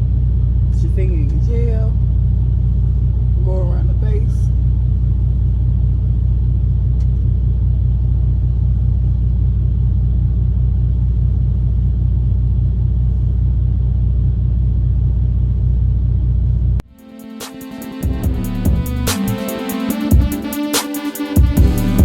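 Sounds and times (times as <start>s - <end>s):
truck engine idling: 0.0s - 16.8s, 18.1s - 20.6s.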